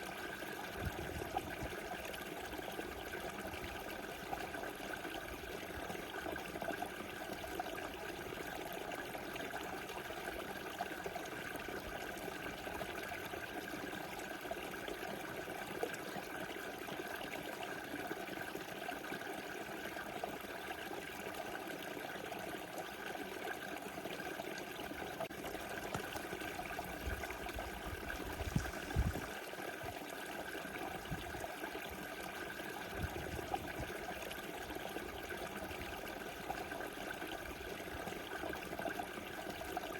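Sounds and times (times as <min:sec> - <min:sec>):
river water rushing and trickling: 0:00.0 - 0:39.9.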